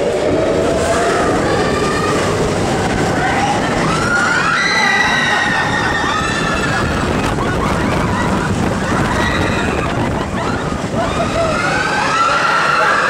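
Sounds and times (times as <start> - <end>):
people screaming: 0.0 - 13.0
roller coaster train running on track: 0.0 - 13.0
wind rushing over microphone: 0.0 - 13.0.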